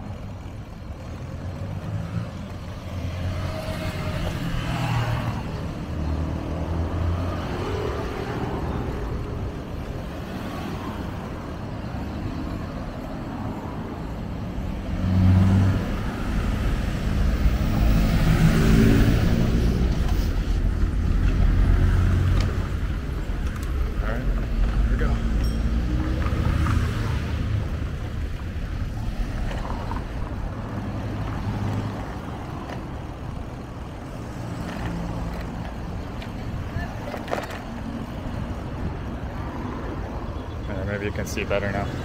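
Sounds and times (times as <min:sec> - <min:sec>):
cars passing by: 0:00.0 - 0:42.0
low traffic rumble: 0:00.0 - 0:42.0.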